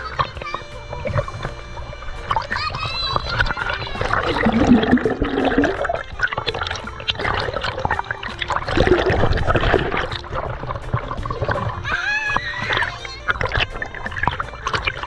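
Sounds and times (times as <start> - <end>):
river water splashing: 0.0 - 15.0.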